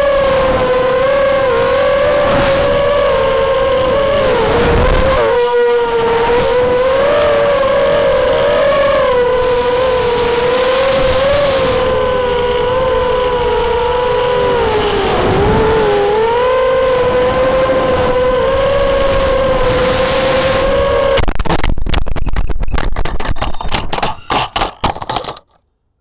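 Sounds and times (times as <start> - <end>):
quadcopter motors whining: 0.0 - 21.3.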